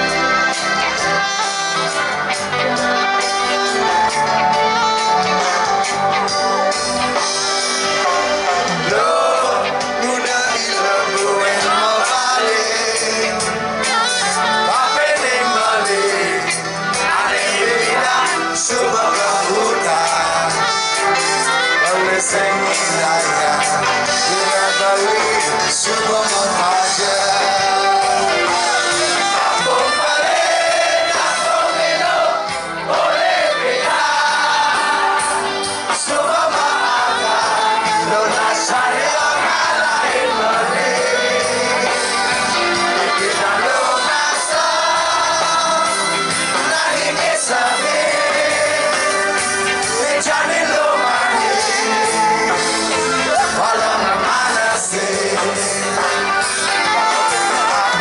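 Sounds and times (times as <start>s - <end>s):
crowd singing along and shouting: 0.0s - 58.0s
lead singer singing: 0.0s - 58.0s
live reggae band playing: 0.0s - 58.0s.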